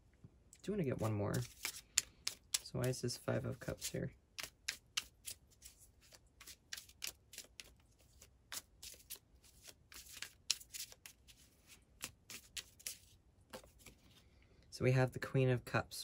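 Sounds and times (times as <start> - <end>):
cards being shuffled: 1.0 - 14.2.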